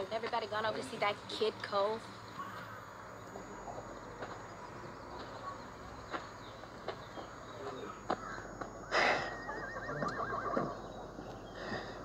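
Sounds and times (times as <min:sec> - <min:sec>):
faint bird calls: 0:02.2 - 0:12.0.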